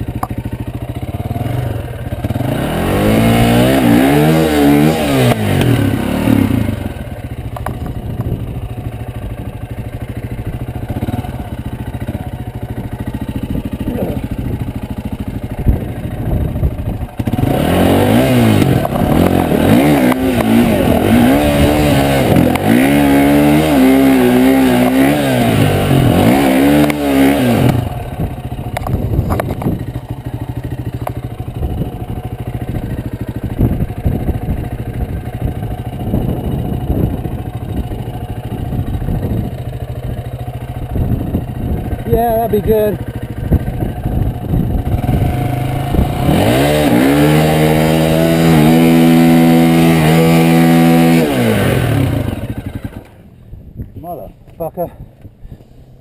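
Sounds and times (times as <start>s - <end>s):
motorcycle engine idling: 0.0s - 56.0s
motorcycle throttle blips: 0.0s - 56.0s.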